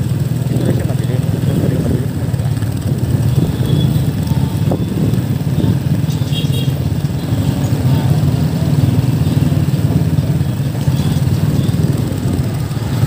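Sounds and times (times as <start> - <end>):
motorcycles riding: 0.0 - 13.0
road noise: 0.0 - 13.0.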